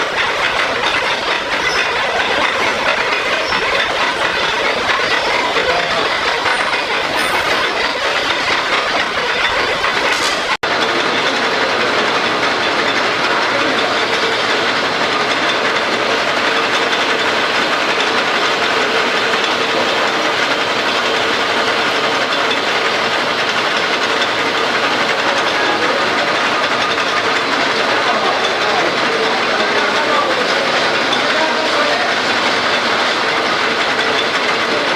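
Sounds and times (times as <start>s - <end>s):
metal lathe rattling: 0.0s - 34.9s.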